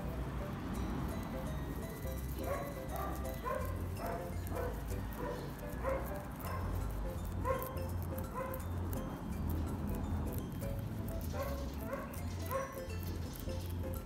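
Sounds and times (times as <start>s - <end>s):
guinea pigs chewing grass: 0.0s - 14.0s
light plucked background music: 0.0s - 14.0s.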